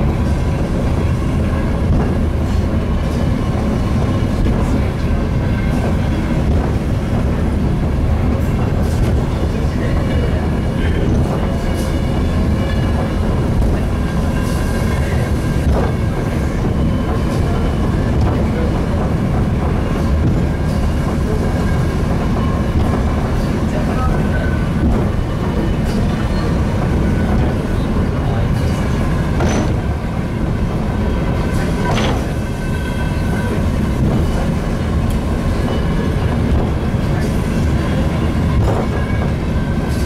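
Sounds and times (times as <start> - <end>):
funicular car rumbling on track: 0.0 - 40.0.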